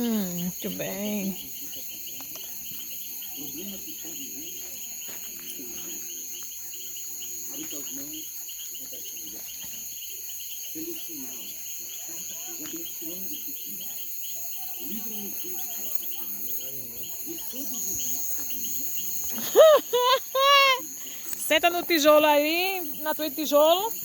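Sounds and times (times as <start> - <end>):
crickets chirping: 0.0 - 24.0
faint voices: 0.0 - 24.0
high-pitched insect trill: 0.0 - 24.0.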